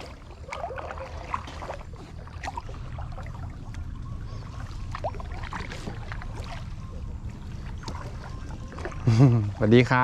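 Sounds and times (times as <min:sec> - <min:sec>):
low rumble: 0:00.0 - 0:09.6
paddle splashing water: 0:00.0 - 0:10.0.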